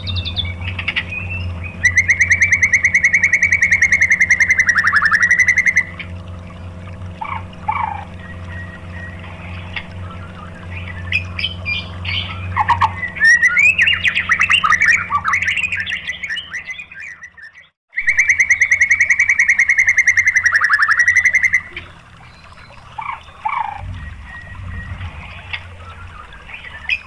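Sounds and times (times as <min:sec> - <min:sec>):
bird singing whistled phrases: 0:00.0 - 0:05.9, 0:07.8 - 0:27.0.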